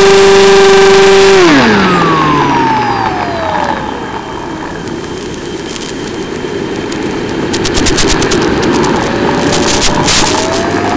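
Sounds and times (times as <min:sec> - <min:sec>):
electric motor and propeller whine: 0:00.0 - 0:10.9
rush of wind: 0:01.4 - 0:10.9.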